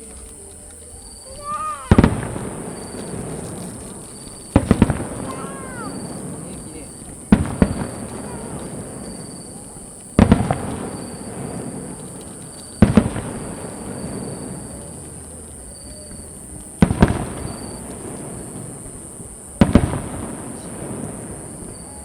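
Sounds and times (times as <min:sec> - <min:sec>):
firework shells booming: 0:01.3 - 0:22.0.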